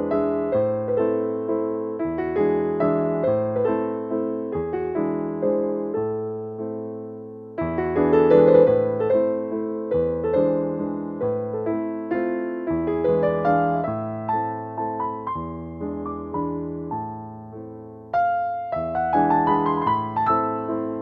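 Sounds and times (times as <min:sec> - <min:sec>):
soft piano melody: 0:00.0 - 0:21.0.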